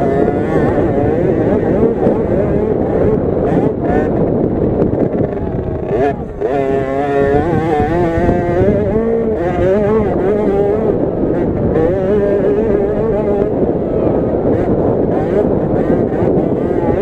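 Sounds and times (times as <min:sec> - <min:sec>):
minibike engine revving hard: 0:00.0 - 0:17.0.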